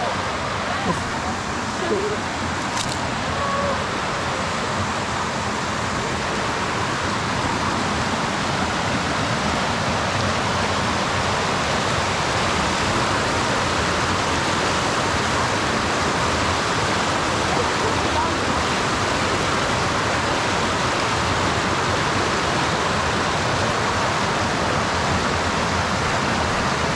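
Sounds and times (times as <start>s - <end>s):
river water rushing over rocks: 0.0s - 26.9s.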